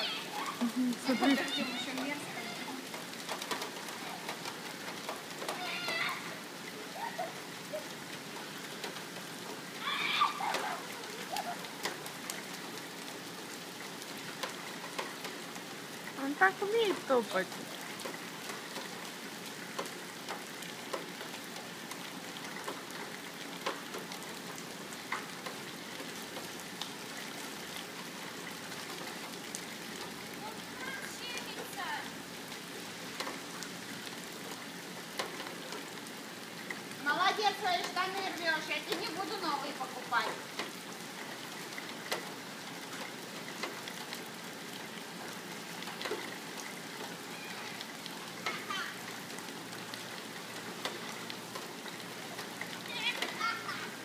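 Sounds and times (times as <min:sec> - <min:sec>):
drips and splashes: 0:00.0 - 0:54.0
steady rain falling: 0:00.0 - 0:54.0.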